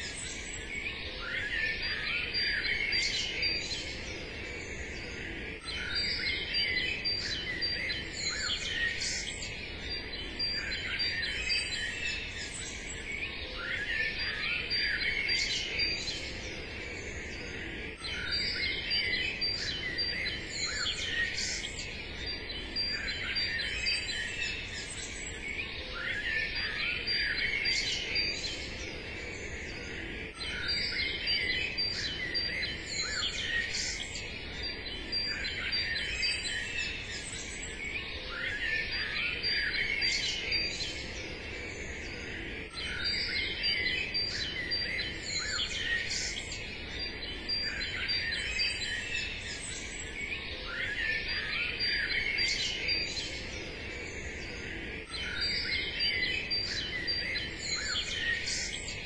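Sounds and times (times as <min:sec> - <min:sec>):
low steady hiss: 0:00.0 - 0:59.0
small birds chirping: 0:00.0 - 0:59.0.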